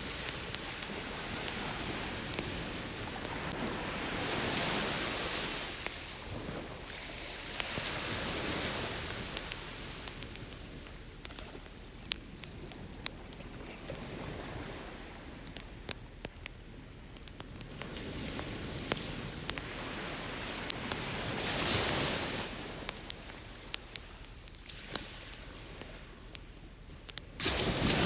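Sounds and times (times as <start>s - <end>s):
ocean waves washing ashore: 0.0s - 16.0s, 16.8s - 26.4s, 27.4s - 28.0s
campfire crackling and popping: 0.0s - 28.0s.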